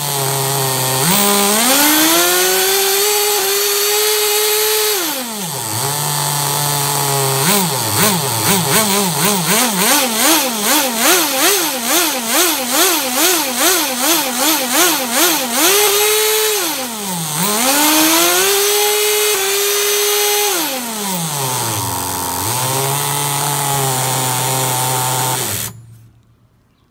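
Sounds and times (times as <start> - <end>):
nitro engine revving: 0.0 - 25.8.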